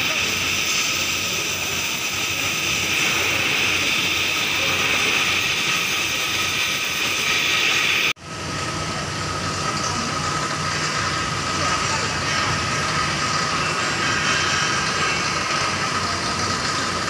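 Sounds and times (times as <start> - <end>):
welding torch flame hissing: 0.0 - 8.5, 9.1 - 17.0.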